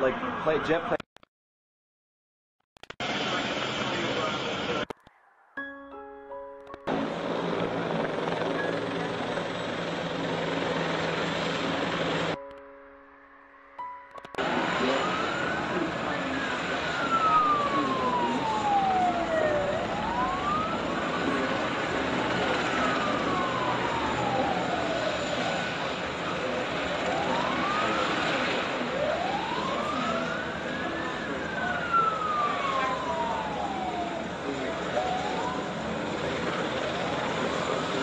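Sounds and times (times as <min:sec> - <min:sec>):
city street noise: 0:00.0 - 0:01.0, 0:03.0 - 0:12.7, 0:13.8 - 0:38.0
siren wailing: 0:04.7 - 0:38.0.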